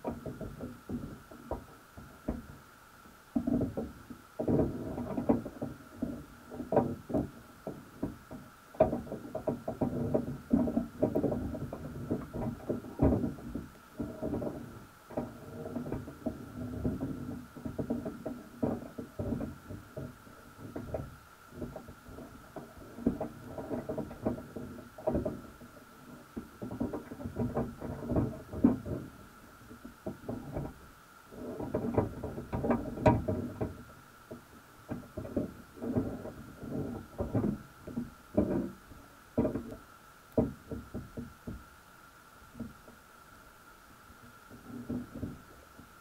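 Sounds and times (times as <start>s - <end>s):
muffled underwater knocks and rustles: 0.0s - 46.0s.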